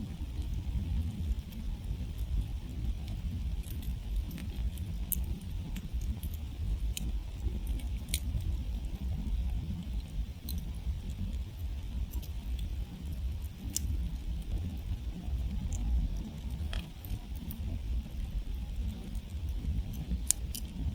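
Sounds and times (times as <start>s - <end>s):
campfire crackling and popping: 0.0s - 20.9s
low rumble of fire: 0.0s - 20.9s.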